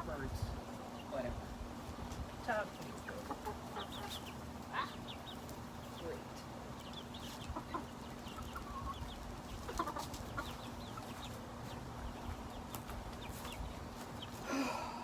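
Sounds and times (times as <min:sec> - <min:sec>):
chickens clucking: 0:00.0 - 0:14.6
chicks peeping: 0:00.0 - 0:14.6.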